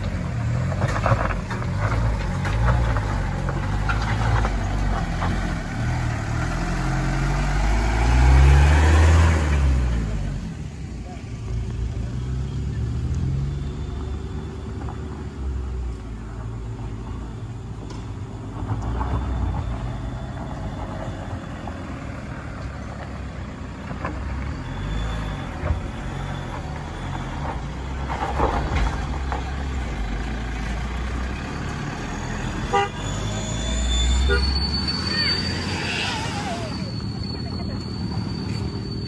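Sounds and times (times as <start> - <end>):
van engine running under load: 0.0 - 34.4.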